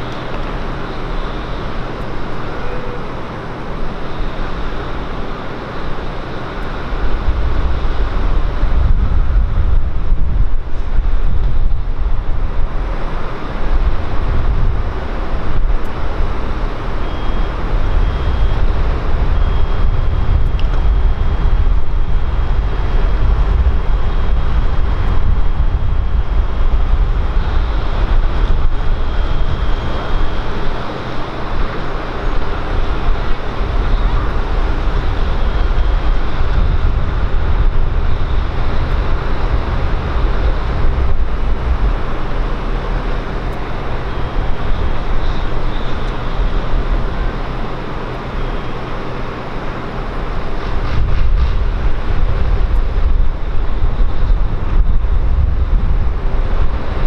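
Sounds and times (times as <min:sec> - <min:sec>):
faint high engine whine: 0:00.0 - 0:57.0
jet engines rumbling: 0:00.0 - 0:57.0.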